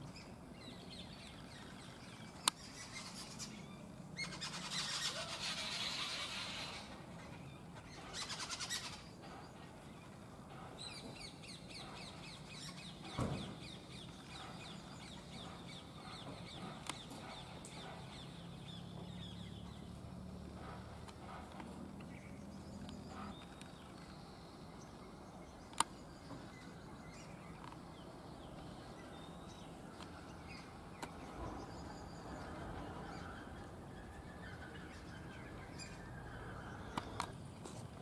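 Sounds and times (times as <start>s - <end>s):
distant bird calls: 0.0s - 38.0s.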